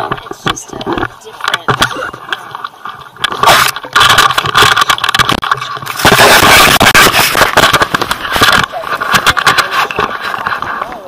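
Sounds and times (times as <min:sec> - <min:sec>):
phone handling scraping and rustling: 0:00.0 - 0:11.0.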